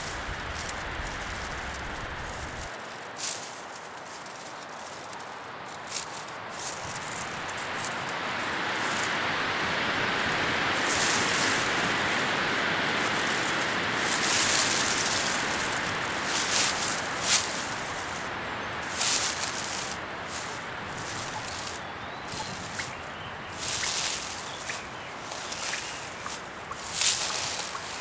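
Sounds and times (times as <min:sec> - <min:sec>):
crisp leaf crackles: 0:00.0 - 0:28.0
leaves rustling in wind: 0:00.0 - 0:28.0.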